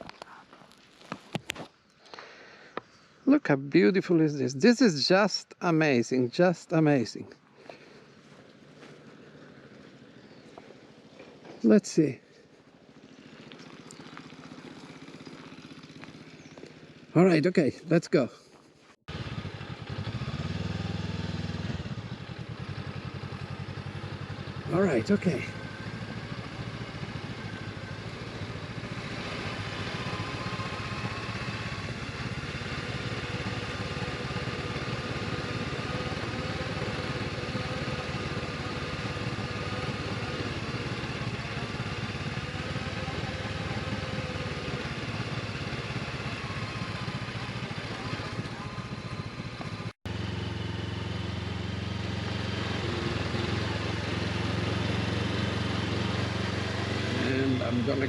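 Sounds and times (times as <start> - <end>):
motorcycle engine running: 7.6 - 17.6, 18.5 - 58.0.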